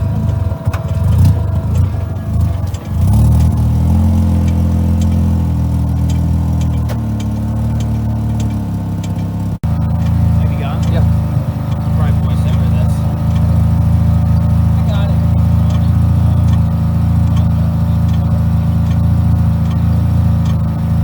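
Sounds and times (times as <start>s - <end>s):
rotary engine running: 0.0s - 21.0s.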